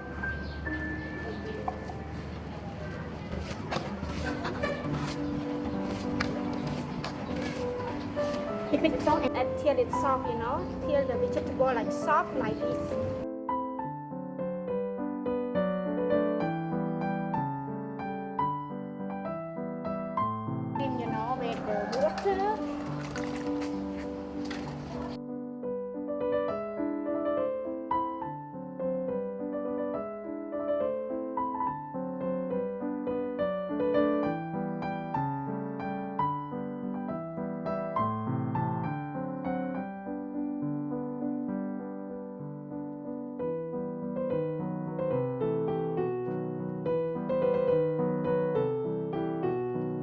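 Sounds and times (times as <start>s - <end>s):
gentle piano melody: 0.0s - 50.0s.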